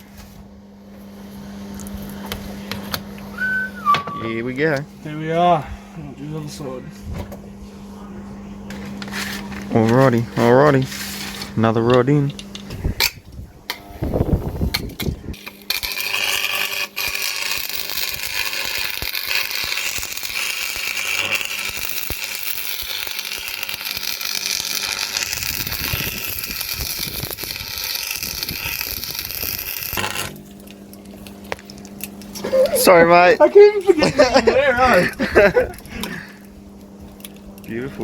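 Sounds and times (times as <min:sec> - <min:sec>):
arc welder crackling sizzle: 0:00.9 - 0:03.7, 0:08.7 - 0:38.0.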